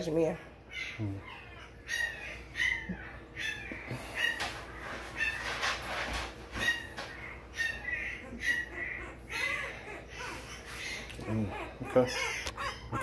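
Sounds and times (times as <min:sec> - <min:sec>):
puppy squealing: 0:00.5 - 0:13.0.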